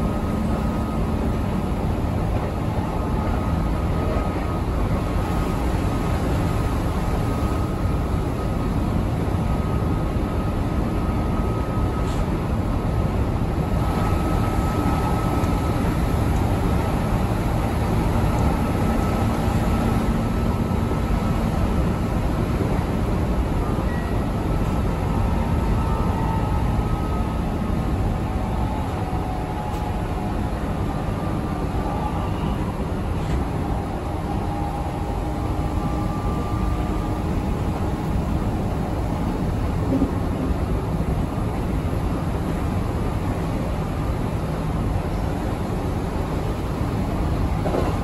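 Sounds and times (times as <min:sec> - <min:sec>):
faint whines: 0:00.0 - 0:42.0
train wheels rumbling on rail: 0:00.0 - 0:48.0.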